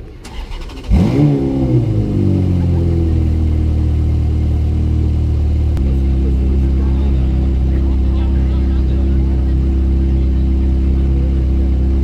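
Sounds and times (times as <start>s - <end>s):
sports car engine starting and idling: 0.0s - 12.0s.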